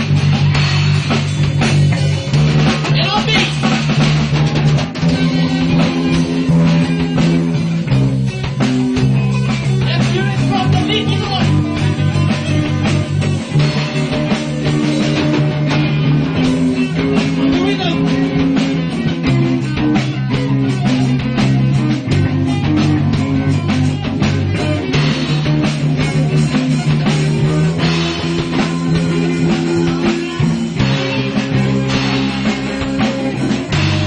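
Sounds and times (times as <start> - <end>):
bass guitar: 0.0 - 34.0
drum beat: 0.0 - 34.0
electric guitars: 0.0 - 34.0.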